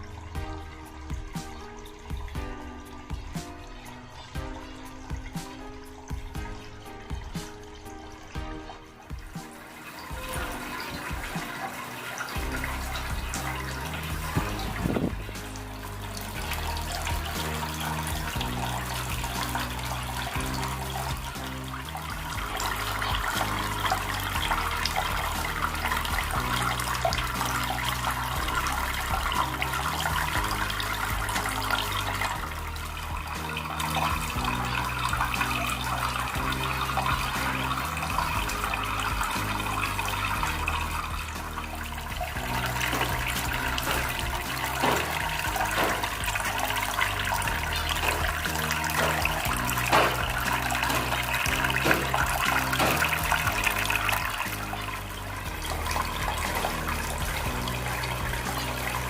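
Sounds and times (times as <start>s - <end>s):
background music with low notes: 0.0s - 59.0s
water splashing down fountain: 0.0s - 59.0s.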